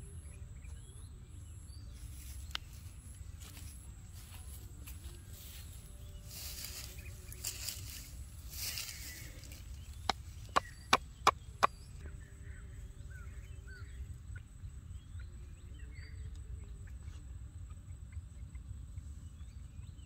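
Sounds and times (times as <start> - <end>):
faint bird chirps: 0.0 - 20.0
low outdoor rumble: 0.0 - 20.0
thin steady high hum: 0.0 - 20.0.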